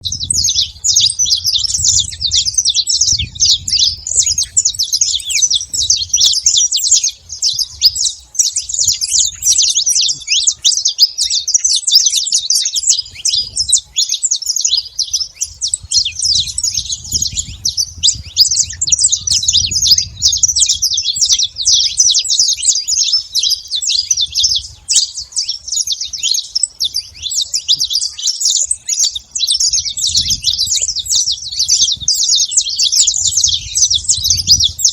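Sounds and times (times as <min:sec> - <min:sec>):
finches chirping: 0:00.0 - 0:34.9.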